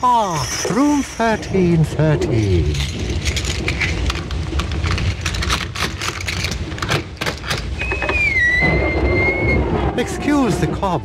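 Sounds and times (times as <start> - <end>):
low rumble: 0.0 - 7.2, 8.4 - 11.0
door creaking open: 0.0 - 11.0.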